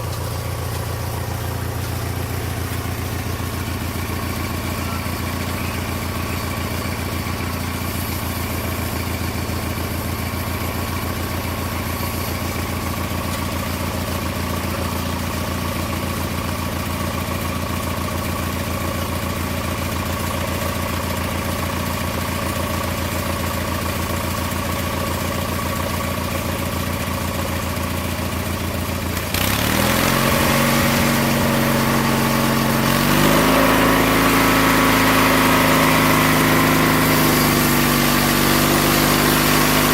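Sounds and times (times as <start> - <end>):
lawn mower engine revving: 0.0 - 39.9.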